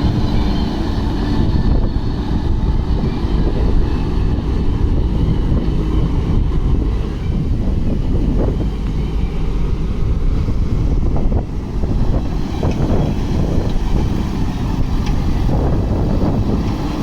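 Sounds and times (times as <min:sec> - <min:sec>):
diesel engine running: 0:00.0 - 0:17.0
wind on microphone: 0:00.0 - 0:17.0.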